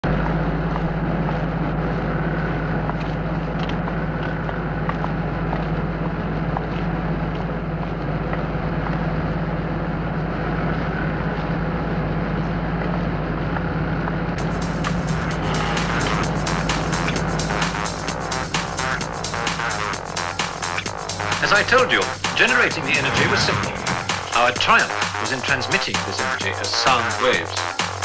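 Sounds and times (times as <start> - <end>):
machinery low hum and rumble: 0.0 - 27.7.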